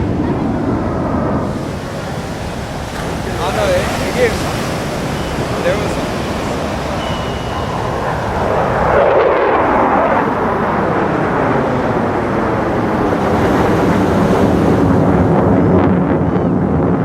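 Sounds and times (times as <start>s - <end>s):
jet flying past: 0.0s - 17.0s
wind buffeting microphone: 0.0s - 17.0s.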